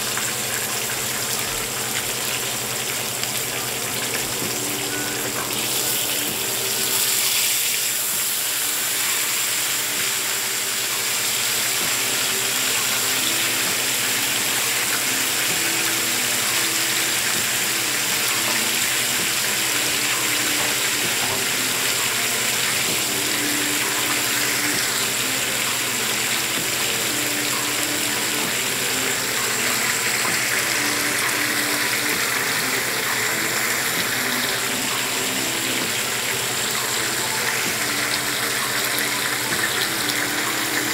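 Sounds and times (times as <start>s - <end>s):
fish sizzling in hot oil: 0.0s - 40.9s.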